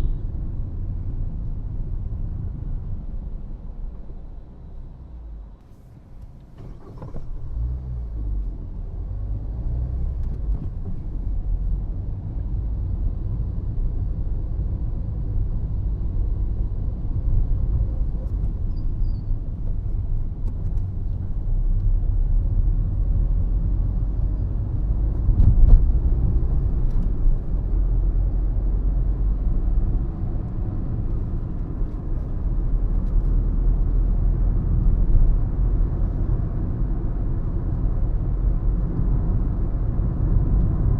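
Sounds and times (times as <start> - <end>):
car driving engine and road noise: 0.0 - 40.9.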